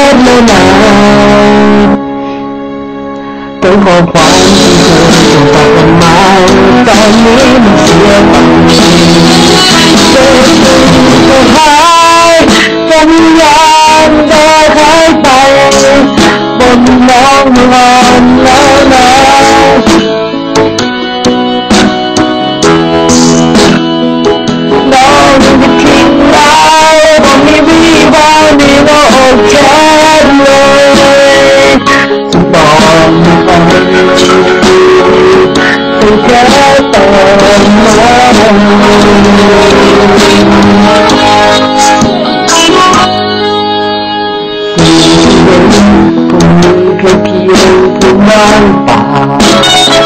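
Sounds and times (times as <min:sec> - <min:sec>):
plucked guitar: 0:00.0 - 0:50.0
sliding lead melody: 0:00.0 - 0:50.0.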